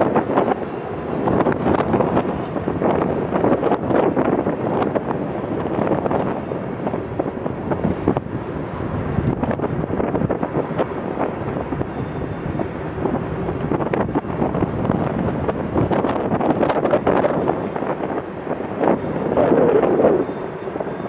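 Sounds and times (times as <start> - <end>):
freight train rumbling past: 0.0 - 21.0
wind on microphone: 0.0 - 21.0.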